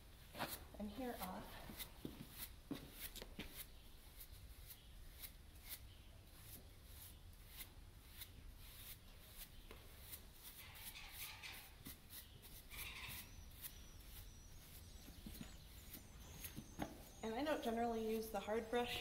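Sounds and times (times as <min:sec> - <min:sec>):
brush swishing on horse coat: 0:00.3 - 0:19.0.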